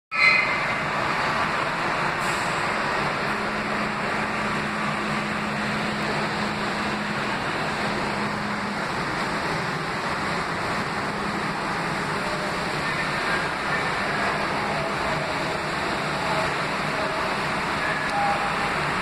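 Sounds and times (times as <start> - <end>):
subway train pulling out: 0.1 - 19.0.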